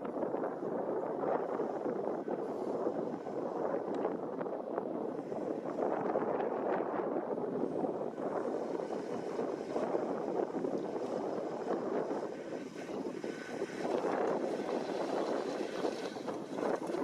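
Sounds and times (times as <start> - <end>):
tractor engine and machinery rumble: 0.0 - 17.0.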